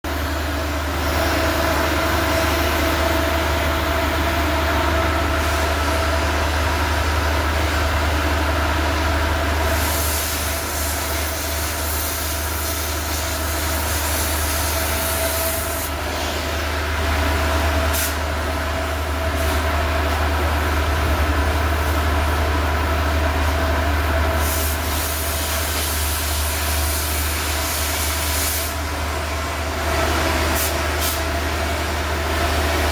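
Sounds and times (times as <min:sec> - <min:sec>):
heavy machinery droning: 0:00.1 - 0:32.9.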